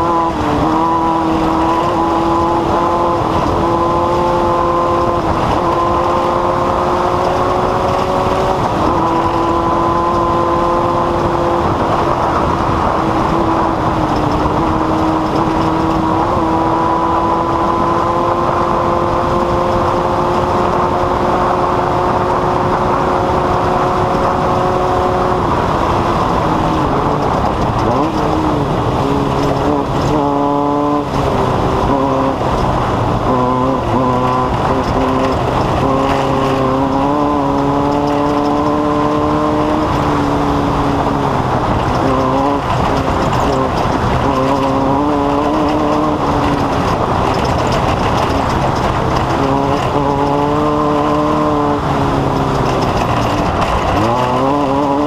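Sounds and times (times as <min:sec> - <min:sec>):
race engine at high revs: 0:00.0 - 0:55.0
wind and rough-ground noise: 0:00.0 - 0:55.0.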